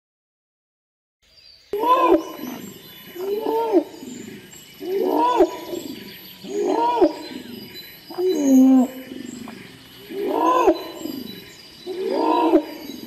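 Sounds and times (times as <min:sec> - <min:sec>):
orangutan calling: 0:01.8 - 0:13.0.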